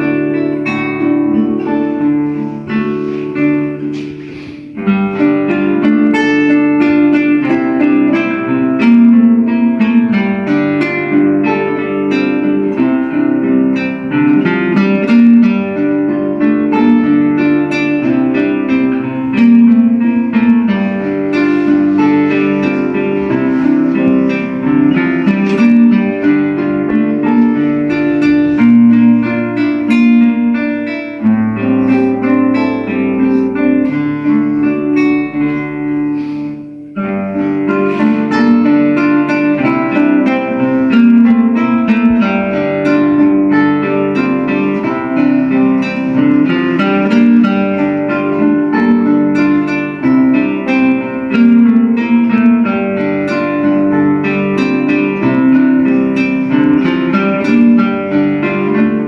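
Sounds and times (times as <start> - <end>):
acoustic guitars duet: 0.0 - 59.0.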